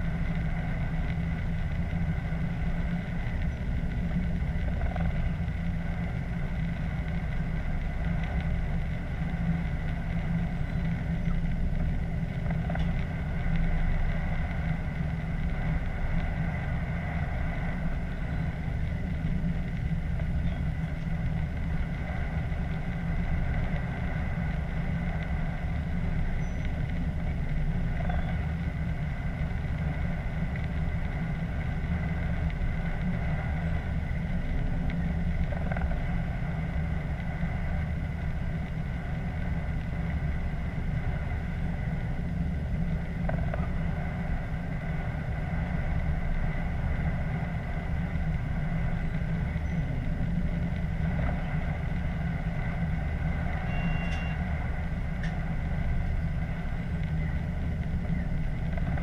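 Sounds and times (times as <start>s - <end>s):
steady whine: 0.0s - 59.0s
train rumbling at speed: 0.0s - 59.0s.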